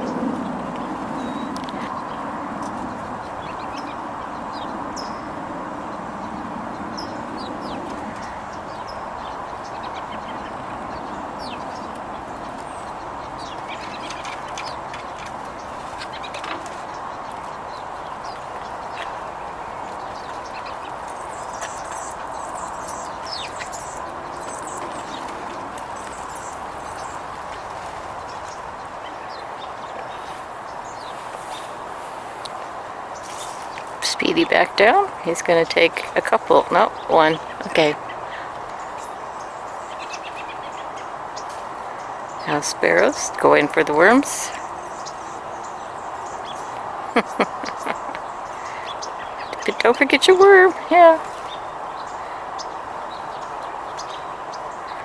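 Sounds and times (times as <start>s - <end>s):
outdoor background hiss: 0.0s - 55.0s
small birds chirping: 0.0s - 55.0s.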